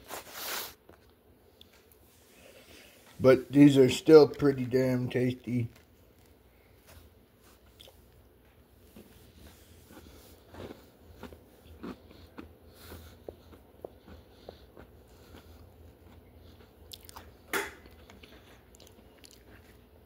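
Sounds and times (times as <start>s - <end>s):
chewing crunchy cookies: 3.6s - 20.0s.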